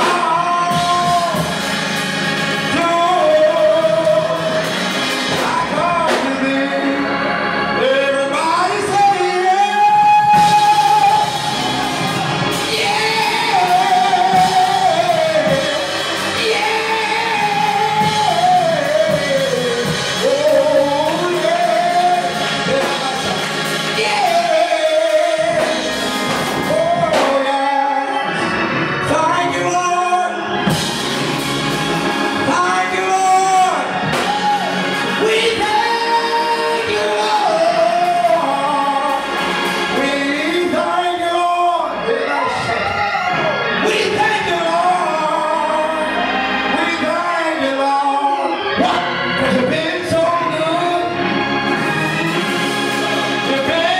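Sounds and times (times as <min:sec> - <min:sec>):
music: 0:00.0 - 0:53.9
person singing gospel into microphone: 0:00.0 - 0:53.9.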